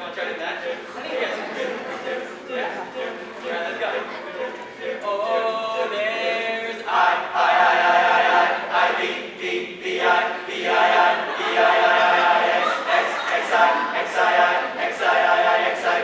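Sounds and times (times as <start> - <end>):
male a cappella group singing: 0.0 - 16.0.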